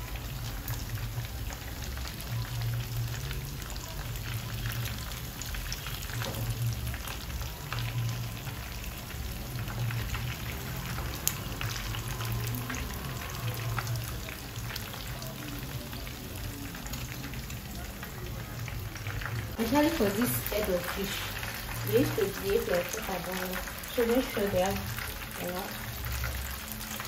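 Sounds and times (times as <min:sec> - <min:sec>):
fish deep-frying in oil: 0:00.0 - 0:27.0.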